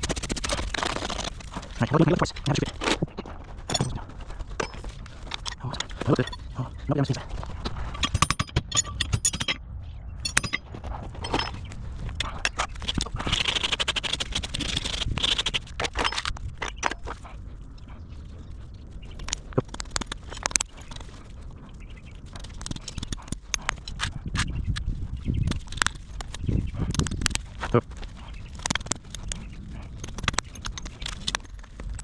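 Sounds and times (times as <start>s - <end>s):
hoof scraping: 0.0s - 8.2s, 10.3s - 32.0s.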